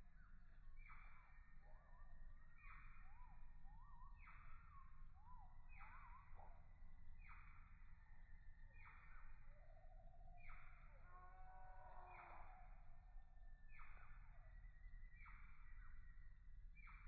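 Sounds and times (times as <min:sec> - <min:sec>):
soft wavering whistled notes: 0:00.0 - 0:17.0.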